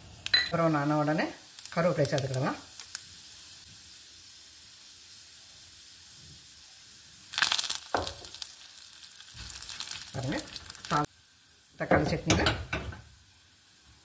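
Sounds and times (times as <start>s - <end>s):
spluttering crackle of frying leaves: 0.0s - 12.3s
oil sizzling in a pan: 0.0s - 14.0s.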